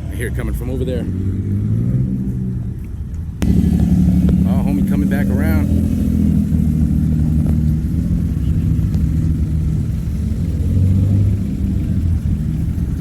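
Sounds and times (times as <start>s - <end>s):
car engine and exhaust rumbling: 0.0s - 13.0s.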